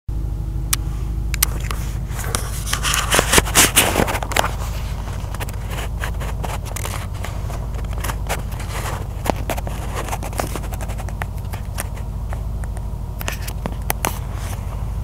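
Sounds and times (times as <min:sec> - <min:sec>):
car engine rumbling: 0:00.1 - 0:15.0.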